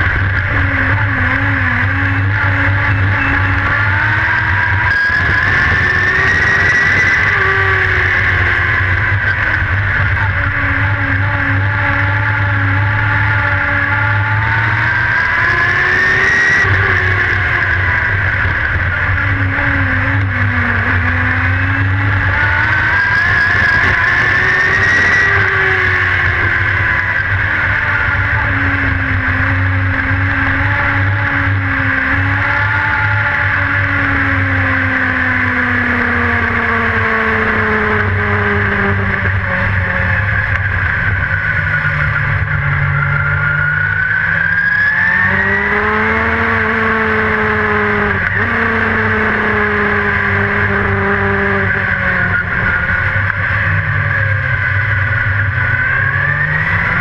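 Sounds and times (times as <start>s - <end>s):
race car engine: 0.0s - 57.0s.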